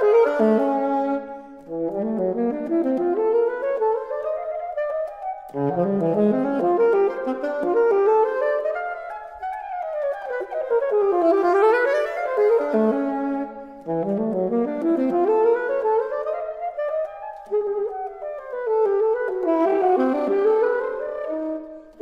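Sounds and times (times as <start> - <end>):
alto saxophone playing fast runs: 0.0 - 22.0.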